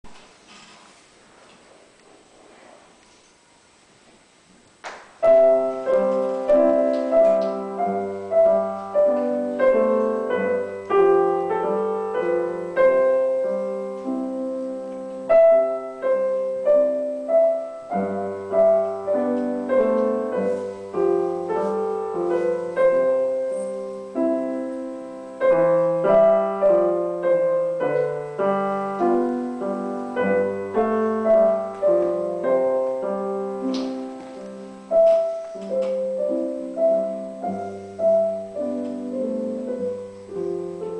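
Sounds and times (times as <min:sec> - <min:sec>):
piano duet: 0:00.0 - 0:40.9.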